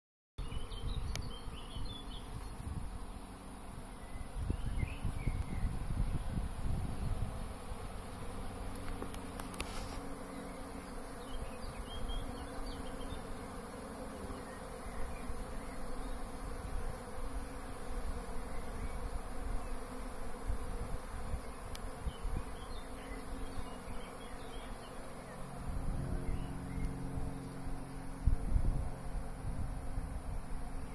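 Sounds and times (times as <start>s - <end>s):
hum of many bees: 0.4s - 30.9s.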